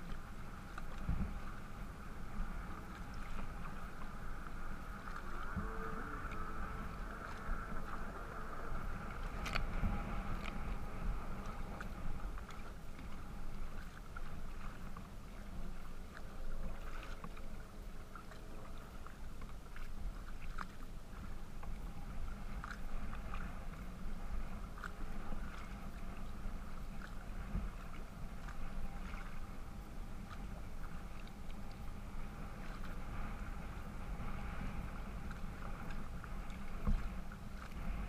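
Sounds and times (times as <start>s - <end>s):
small splashes and drips: 0.0s - 10.8s, 11.4s - 21.9s, 22.6s - 23.8s, 24.6s - 31.9s, 35.2s - 38.0s
low rumble of wind and water: 0.0s - 38.0s
water lapping against plastic hull: 0.0s - 38.0s.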